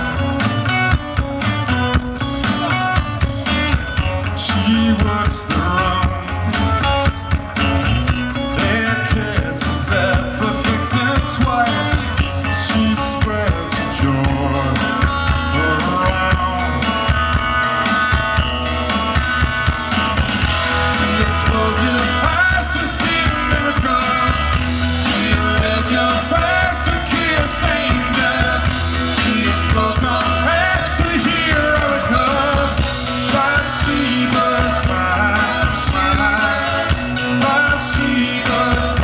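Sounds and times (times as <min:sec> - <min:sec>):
drum kit: 0:00.0 - 0:39.0
electric guitar: 0:00.0 - 0:39.0
man singing: 0:03.4 - 0:17.5, 0:20.4 - 0:39.0.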